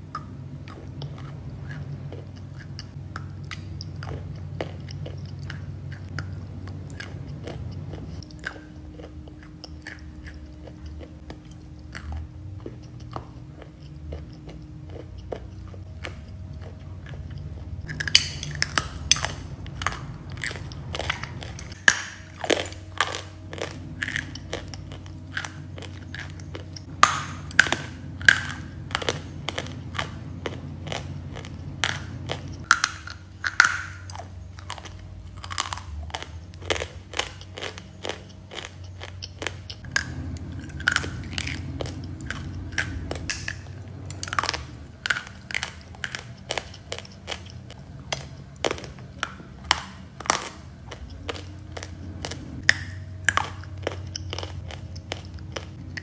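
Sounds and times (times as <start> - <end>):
chalk chewing and crunching: 0.0 - 56.0.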